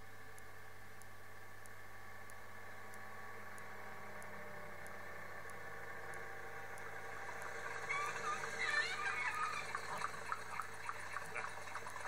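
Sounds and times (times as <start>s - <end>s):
moped engine buzzing: 0.0s - 12.0s.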